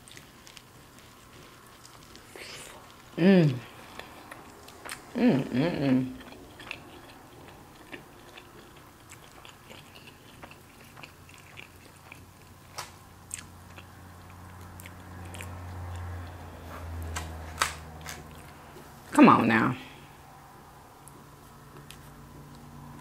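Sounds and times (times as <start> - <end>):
person chewing: 0.0 - 18.9, 21.0 - 23.0.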